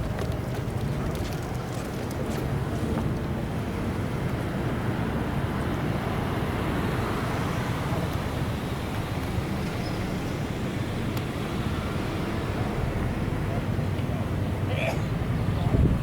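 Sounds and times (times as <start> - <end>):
low rumbling outdoor background noise: 0.0 - 16.0.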